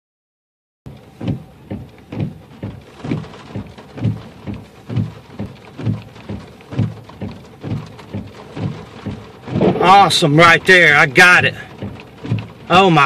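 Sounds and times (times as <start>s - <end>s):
heavy rain: 0.9s - 13.0s
regular low thudding: 0.9s - 13.0s.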